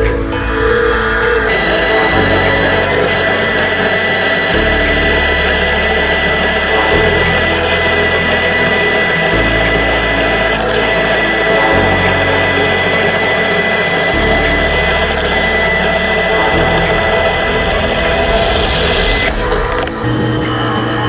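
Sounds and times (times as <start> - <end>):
background music: 0.0 - 21.0
power tool whining: 0.0 - 21.0.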